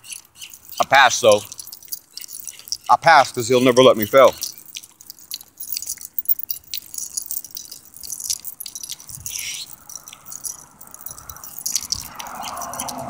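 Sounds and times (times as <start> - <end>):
metal chain necklace jingling: 0.0 - 13.0.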